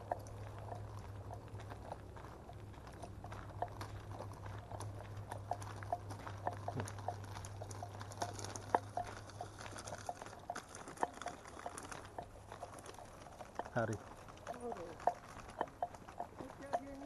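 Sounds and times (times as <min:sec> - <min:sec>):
footsteps on gravel: 0:00.0 - 0:17.0.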